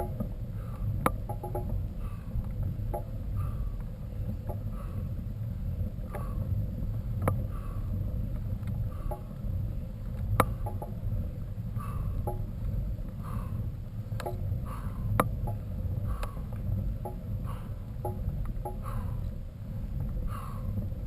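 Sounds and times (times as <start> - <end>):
bike clicks knocks and creaks: 0.0 - 5.2, 5.8 - 13.5, 14.1 - 19.4
mountain bike rumble: 0.0 - 21.0.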